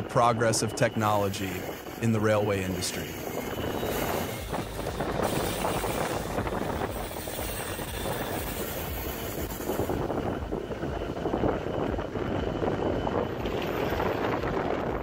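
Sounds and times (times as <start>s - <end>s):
diesel locomotive engine: 0.0s - 15.0s
train wheels on rails: 0.0s - 15.0s.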